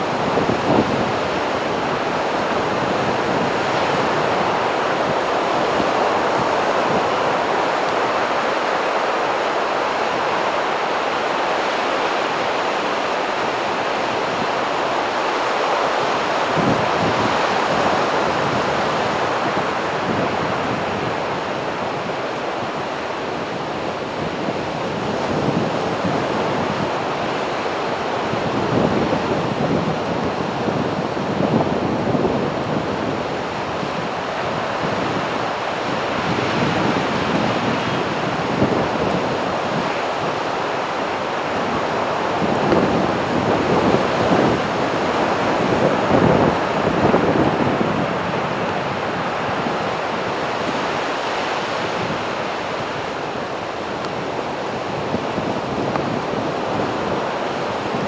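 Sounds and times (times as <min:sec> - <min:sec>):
sea waves breaking on a beach: 0:00.0 - 0:58.0.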